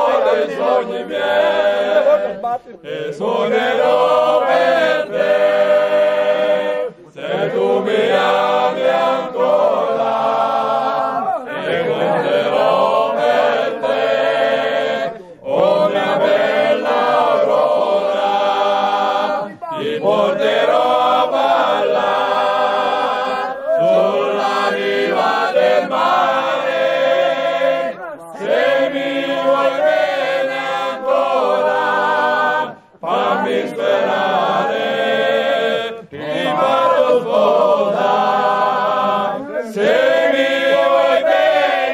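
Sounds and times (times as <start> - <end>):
men singing in chorus: 0.0 - 41.9.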